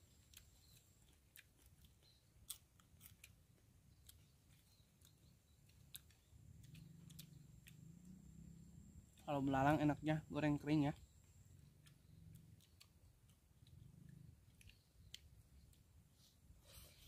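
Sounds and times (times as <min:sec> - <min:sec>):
crunchy chewing: 0:00.0 - 0:10.1, 0:10.9 - 0:17.0
faint low hum: 0:00.0 - 0:17.0.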